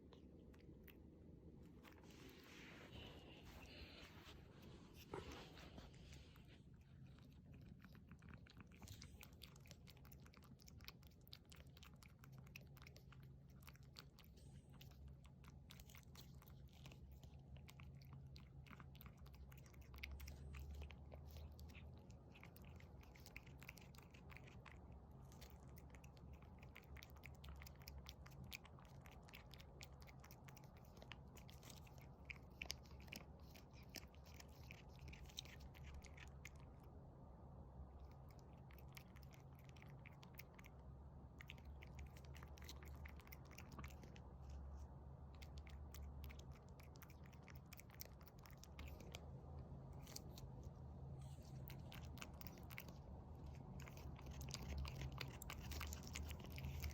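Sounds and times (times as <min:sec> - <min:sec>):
cat eating wet smacking: 0:00.0 - 0:56.9
steady low hum: 0:00.0 - 0:56.9.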